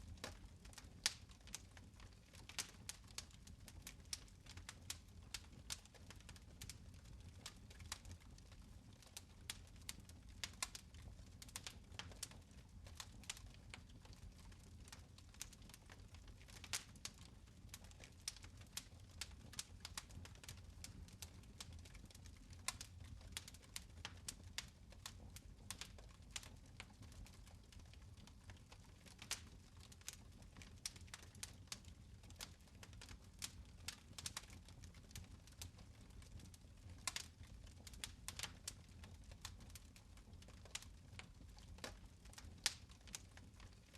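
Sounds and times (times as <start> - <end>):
fire crackling: 0.0 - 43.9.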